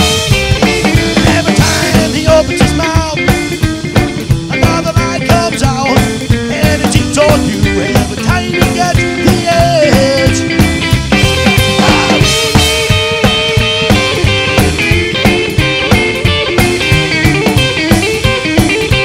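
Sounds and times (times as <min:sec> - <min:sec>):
drum kit steady beat: 0:00.0 - 0:19.0
electric guitar lead with bent notes: 0:00.0 - 0:19.0
upright bass: 0:00.0 - 0:19.0.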